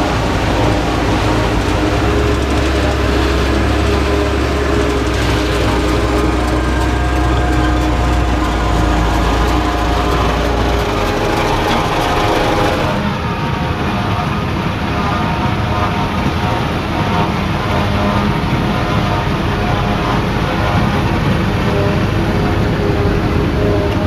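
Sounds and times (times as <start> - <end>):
heavy machinery engine running: 0.0 - 24.0.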